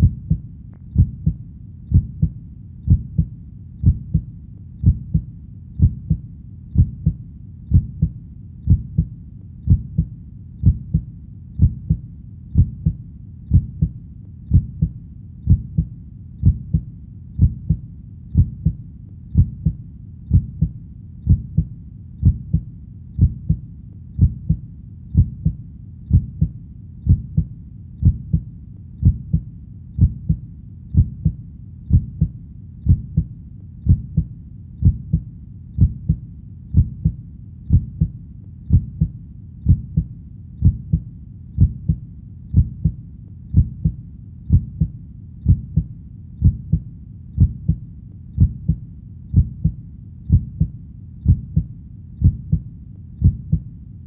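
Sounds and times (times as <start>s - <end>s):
heartbeat: 0.0s - 53.7s.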